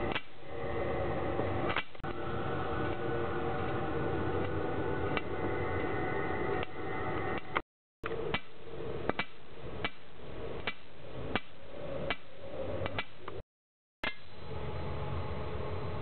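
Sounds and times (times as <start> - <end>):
steady noisy hum: 0.0 - 13.4, 14.0 - 16.0.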